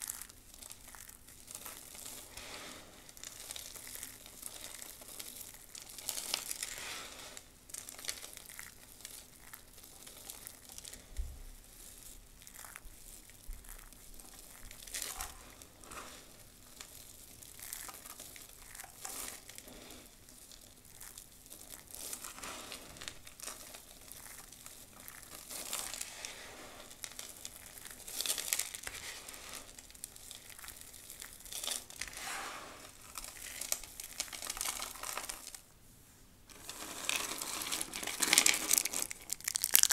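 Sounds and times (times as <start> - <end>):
soap crackling and crunching: 0.0 - 35.7, 36.5 - 39.9.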